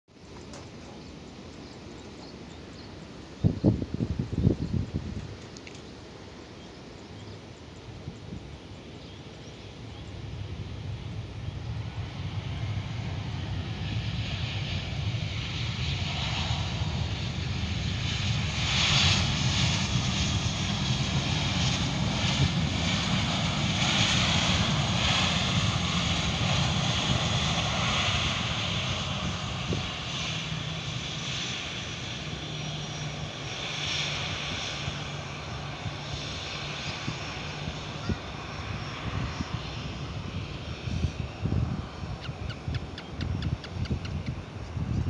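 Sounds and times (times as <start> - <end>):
jet engines roaring: 0.2 - 45.0.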